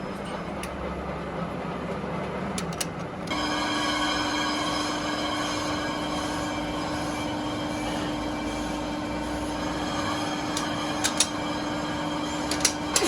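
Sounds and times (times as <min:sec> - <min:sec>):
workshop machinery humming and whining: 0:00.0 - 0:13.0.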